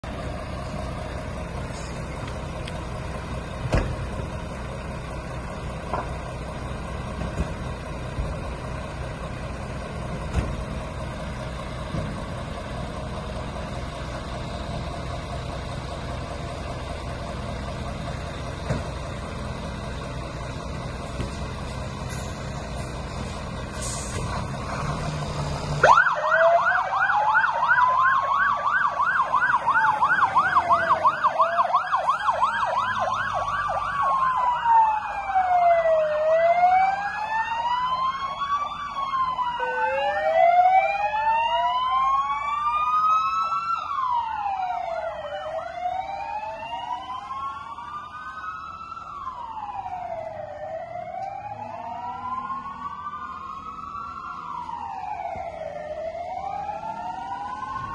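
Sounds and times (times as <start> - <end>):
fire engine sirens yelp and wail: 0.0 - 57.9.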